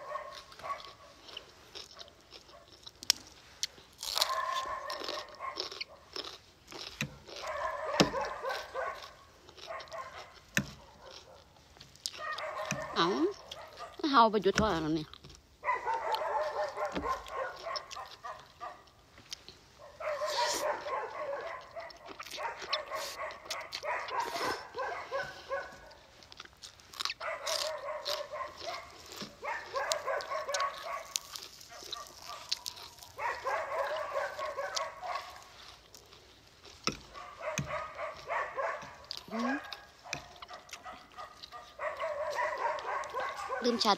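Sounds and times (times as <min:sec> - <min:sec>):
dog barking rapid yaps: 0:00.0 - 0:02.8, 0:04.1 - 0:06.3, 0:07.3 - 0:11.5, 0:12.1 - 0:14.1, 0:15.6 - 0:18.9, 0:19.8 - 0:26.0, 0:27.1 - 0:35.5, 0:37.0 - 0:43.9.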